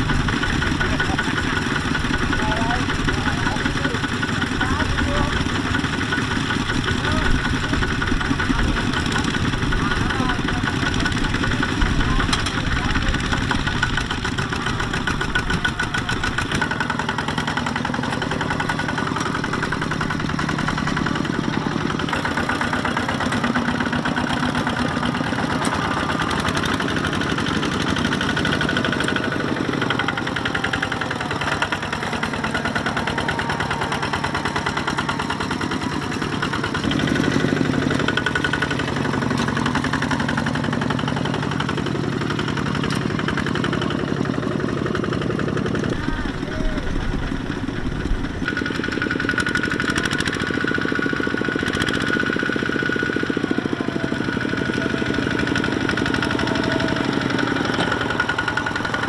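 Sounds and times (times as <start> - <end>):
small tractor engine running: 0.0 - 59.0.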